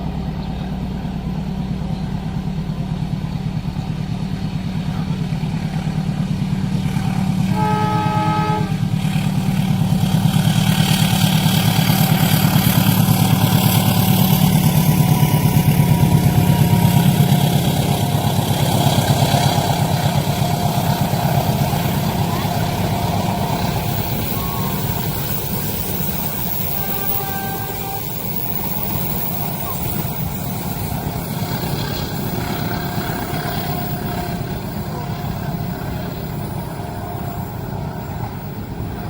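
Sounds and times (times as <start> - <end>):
train engine rumble: 0.0 - 39.0
wheels rushing on rails: 0.0 - 39.0
train horn blast: 6.9 - 39.0.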